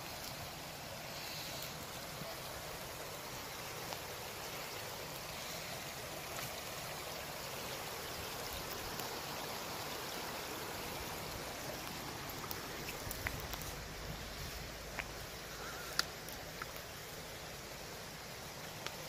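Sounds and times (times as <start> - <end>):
creek water flowing over rocks: 0.0 - 19.0.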